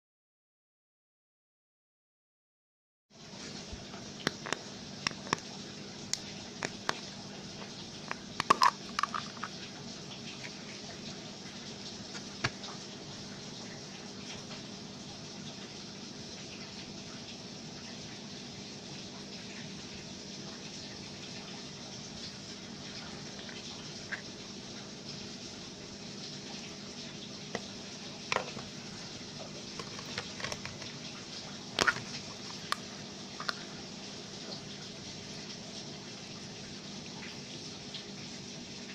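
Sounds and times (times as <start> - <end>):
rain hiss: 3.2 - 38.9.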